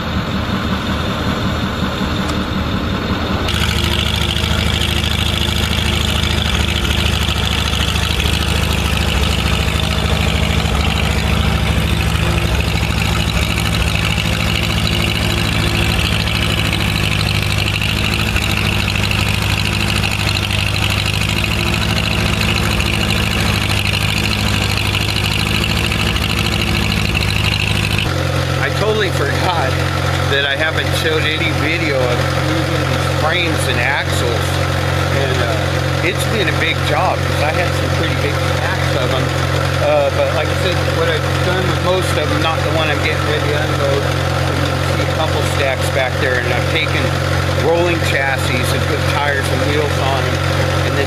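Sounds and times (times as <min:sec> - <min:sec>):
engine running at low speed: 0:00.0 - 0:51.0.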